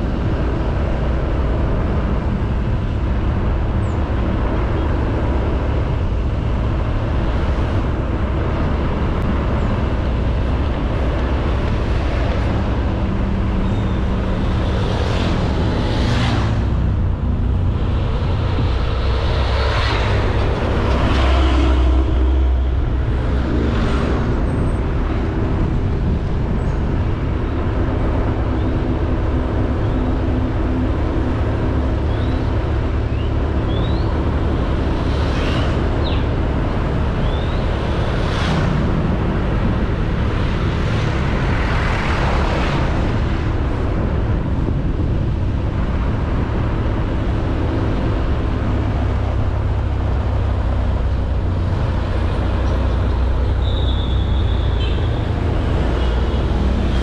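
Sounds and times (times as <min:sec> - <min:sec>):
passing traffic: 0:00.0 - 0:57.0.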